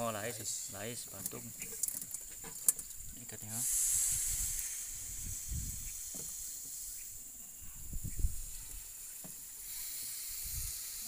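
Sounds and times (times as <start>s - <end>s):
water hissing on hot engine: 0.0s - 11.0s.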